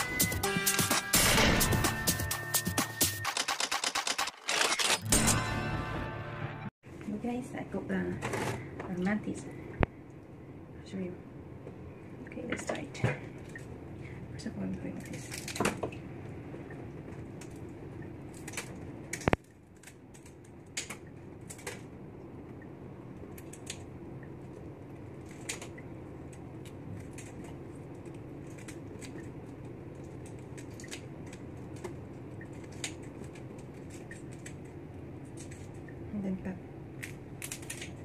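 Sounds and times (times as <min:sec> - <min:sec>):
steady low hum: 0:05.0 - 0:38.0.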